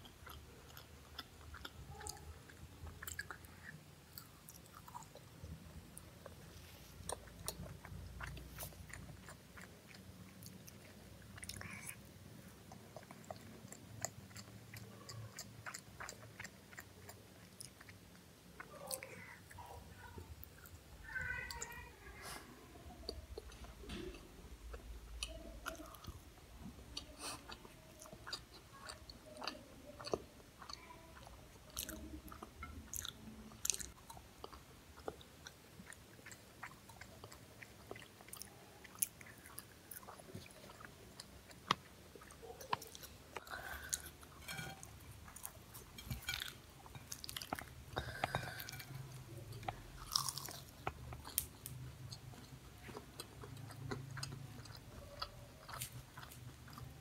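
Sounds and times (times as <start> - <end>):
person chewing: 0.0 - 22.2, 22.9 - 57.0.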